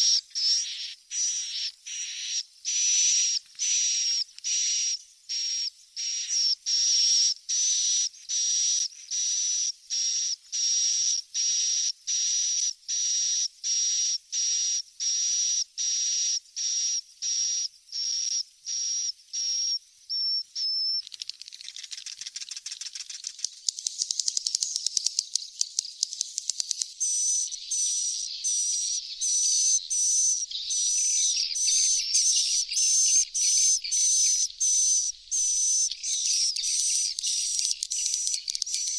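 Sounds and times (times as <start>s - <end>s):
high repeated bird chirps: 0.0s - 11.8s, 18.0s - 38.9s
rapid twittering chatter with clicks: 0.0s - 38.9s.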